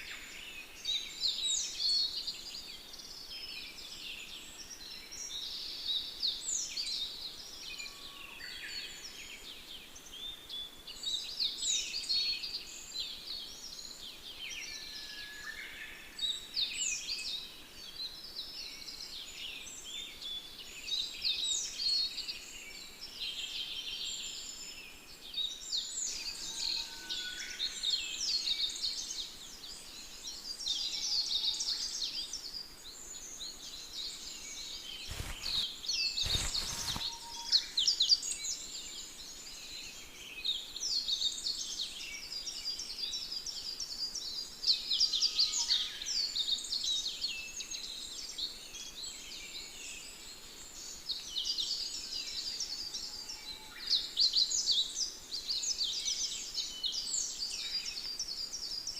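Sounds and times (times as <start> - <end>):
small birds chirping and trilling: 0.0 - 58.9.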